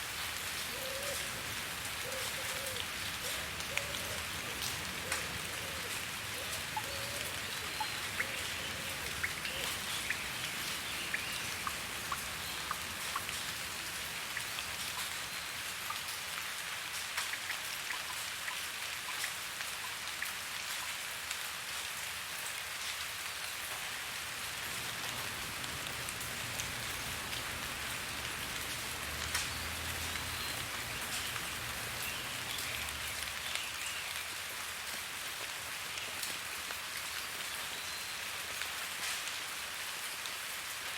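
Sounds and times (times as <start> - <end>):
raindrops ticking on a surface: 0.0 - 40.9
steady rain hissing: 0.0 - 40.9.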